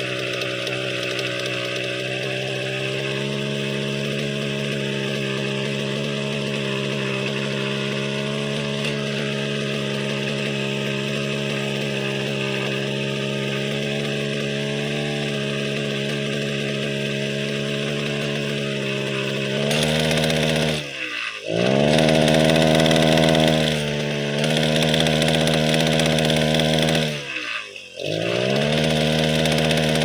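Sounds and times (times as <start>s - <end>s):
brushcutter engine running: 0.0s - 30.0s.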